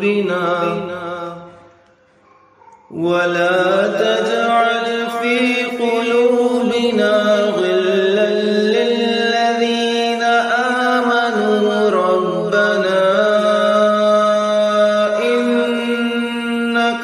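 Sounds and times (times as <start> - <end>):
person chanting recitation: 0.0 - 2.0, 2.8 - 17.0.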